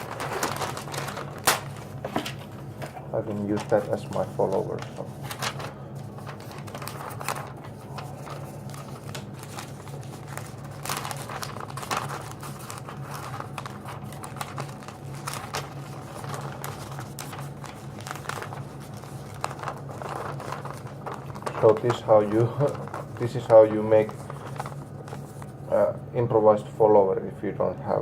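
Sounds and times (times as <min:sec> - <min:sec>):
paper crinkling: 0:00.0 - 0:26.0
steady low hum: 0:00.0 - 0:28.0.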